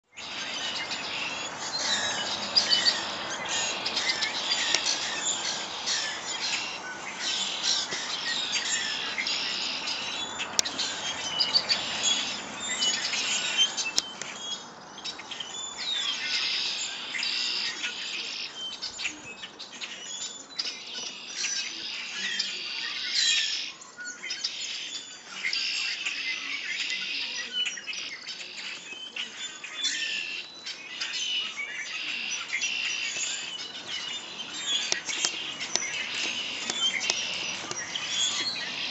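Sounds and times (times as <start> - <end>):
songbirds chirping in chorus: 0.0 - 38.9.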